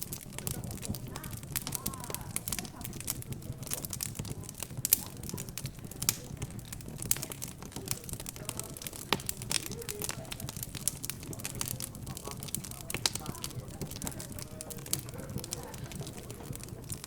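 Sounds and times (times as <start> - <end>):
background chatter: 0.0 - 17.0
fire crackling and popping: 0.0 - 17.0.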